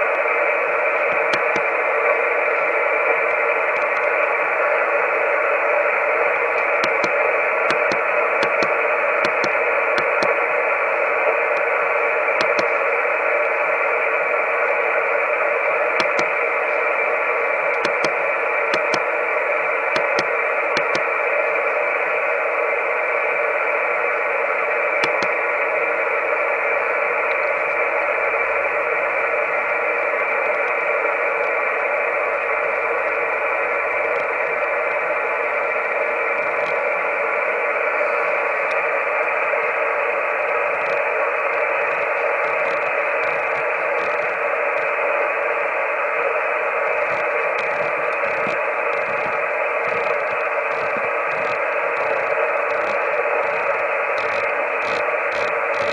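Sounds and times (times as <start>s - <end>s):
radio receiver hiss: 0.0s - 55.9s
static clicks: 0.2s - 21.8s, 24.3s - 55.9s.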